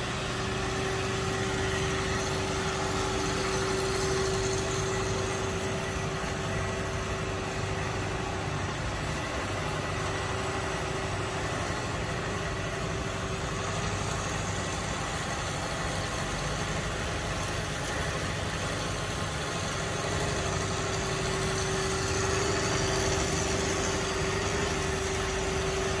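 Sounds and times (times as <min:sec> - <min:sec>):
band saw machine hum: 0:00.0 - 0:26.0.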